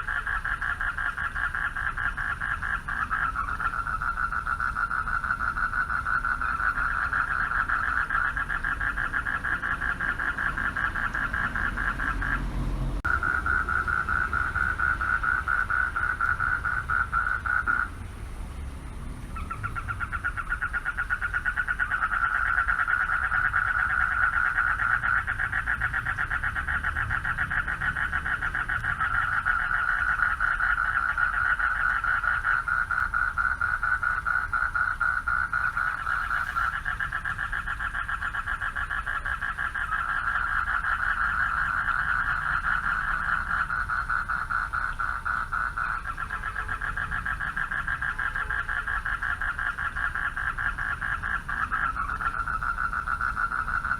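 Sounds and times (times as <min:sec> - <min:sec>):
frogs trilling: 0:00.0 - 0:53.9.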